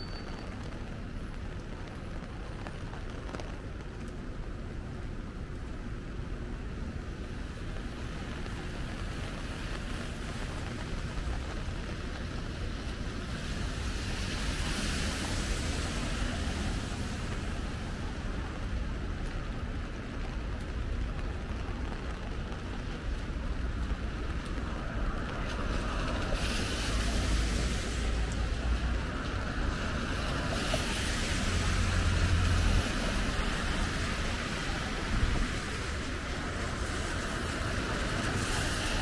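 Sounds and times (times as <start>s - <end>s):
low rumble of traffic: 0.0s - 39.0s
tyres hissing on wet road: 0.0s - 39.0s.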